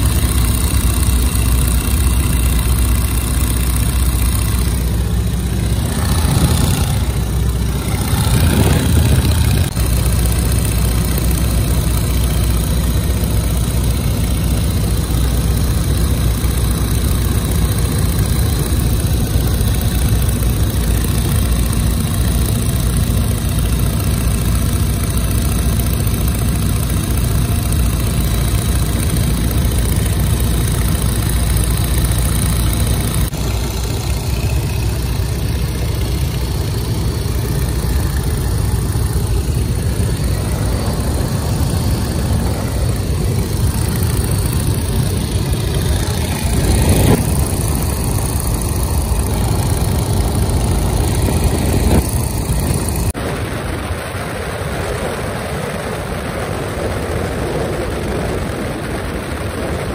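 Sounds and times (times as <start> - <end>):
piston engine running: 0.0 - 59.9.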